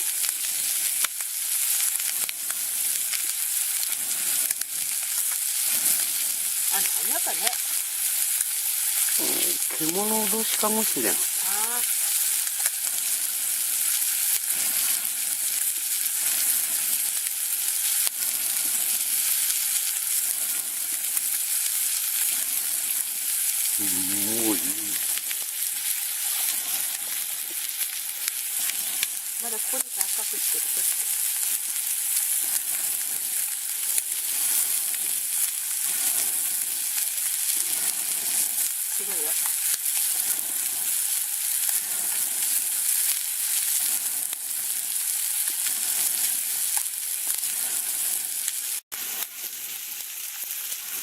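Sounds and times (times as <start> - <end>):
steak sizzling on a grill: 0.0 - 51.0.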